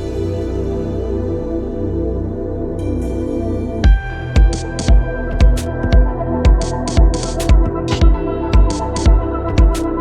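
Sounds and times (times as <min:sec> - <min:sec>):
ambient new-age music: 0:00.0 - 0:10.0.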